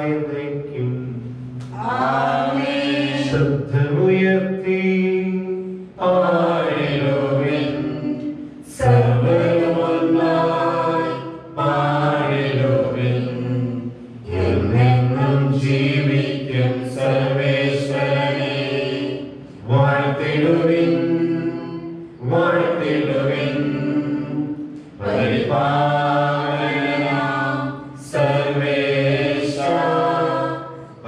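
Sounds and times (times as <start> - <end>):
liturgical chant: 0.0 - 31.0.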